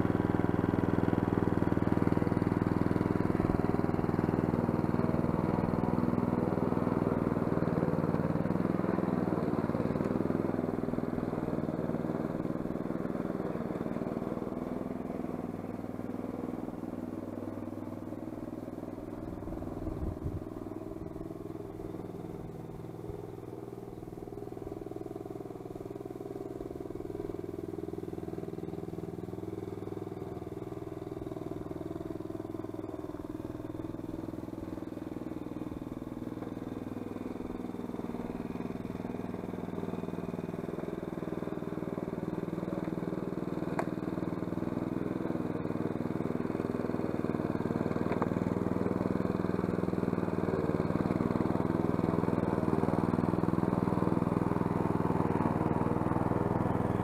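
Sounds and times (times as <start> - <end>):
small lawn mower engine running: 0.0 - 57.0.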